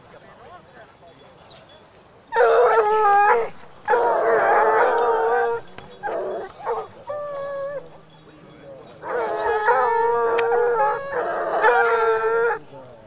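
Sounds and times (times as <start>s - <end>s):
hounds baying: 2.3s - 13.0s.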